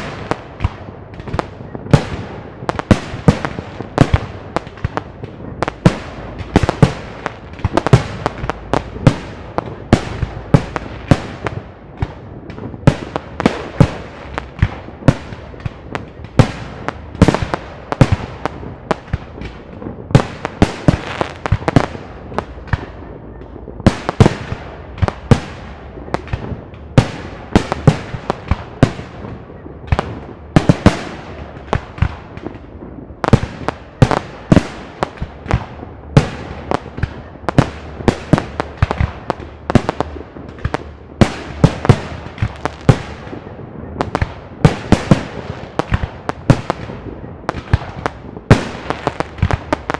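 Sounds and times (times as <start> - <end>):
fireworks bursting: 0.0 - 49.9.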